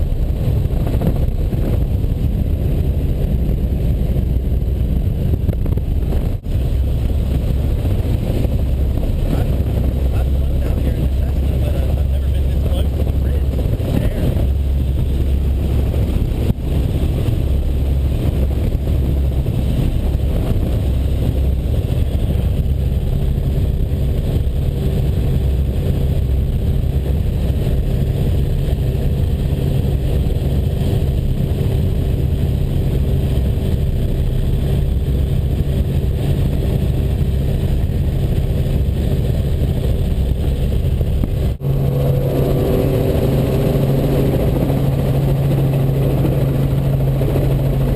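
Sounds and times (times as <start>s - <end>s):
helicopter engine and rotors droning: 0.0s - 47.9s.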